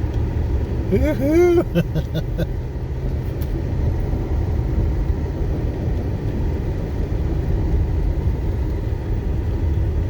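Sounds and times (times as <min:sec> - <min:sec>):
vehicle interior engine and tyre rumble: 0:00.0 - 0:10.0.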